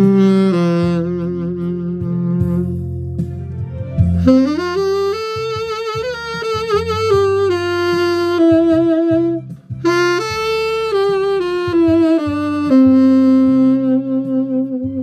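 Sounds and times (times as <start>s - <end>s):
backing track with bass: 0.0s - 15.0s
solo saxophone melody: 0.0s - 15.0s.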